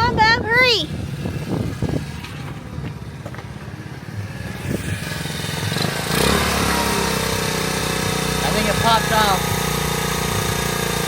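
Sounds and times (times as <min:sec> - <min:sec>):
small engine running unevenly: 0:00.8 - 0:11.0.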